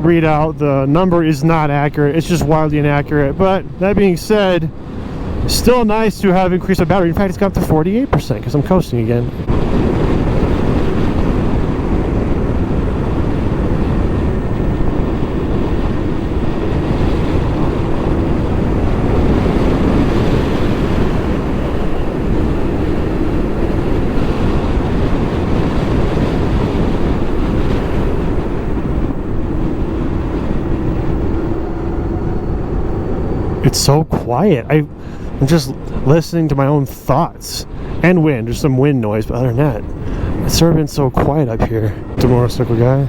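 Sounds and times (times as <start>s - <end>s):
wind rushing on microphone: 0.0s - 43.0s.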